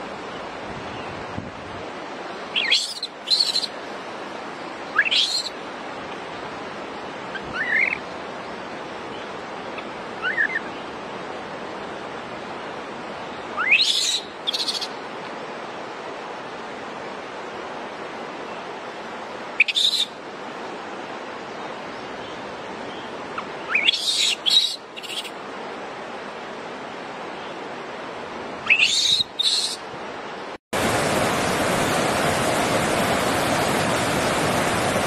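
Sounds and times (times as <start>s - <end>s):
background hiss: 0.0s - 35.0s.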